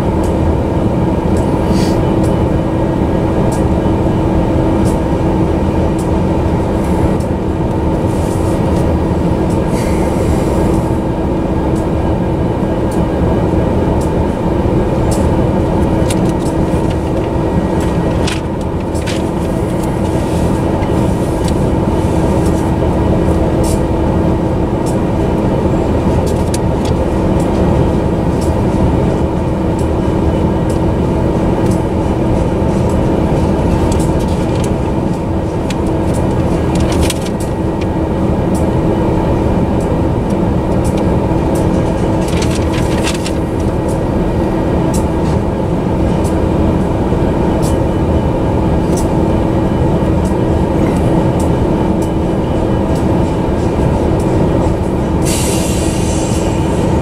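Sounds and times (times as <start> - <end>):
train cars rattling: 0.0 - 57.0
train wheels rumbling on rails: 0.0 - 57.0.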